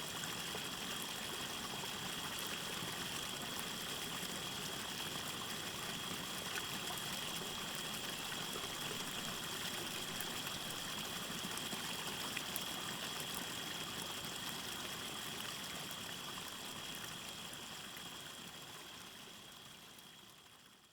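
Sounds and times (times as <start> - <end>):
stream trickling: 0.2 - 20.6.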